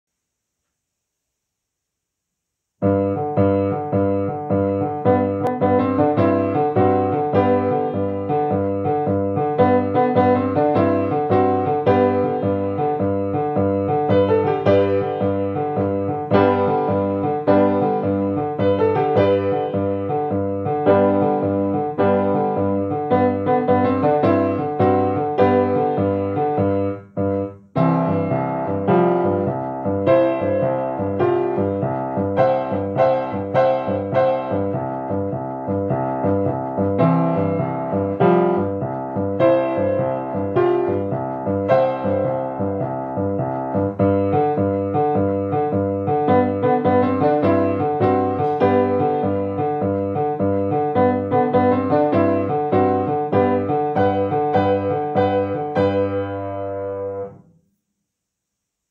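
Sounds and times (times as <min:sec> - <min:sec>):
grand piano playing: 0:02.8 - 0:57.4.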